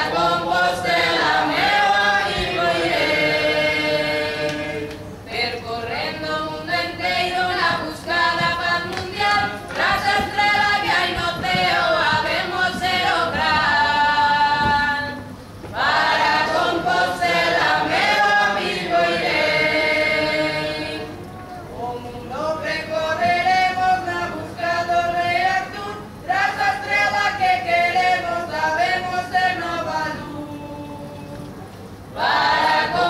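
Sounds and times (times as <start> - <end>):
choir singing: 0.0 - 21.3, 22.5 - 31.4, 32.2 - 33.0.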